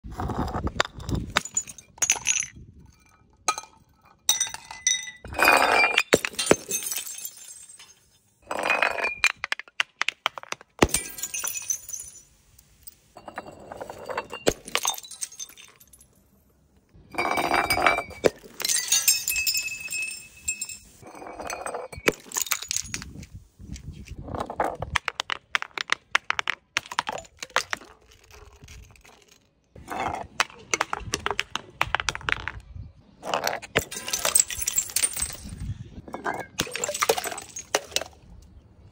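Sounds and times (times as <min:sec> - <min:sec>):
glass bottles tumbling down steps: 0:00.2 - 0:23.2, 0:24.2 - 0:32.6, 0:33.2 - 0:38.3.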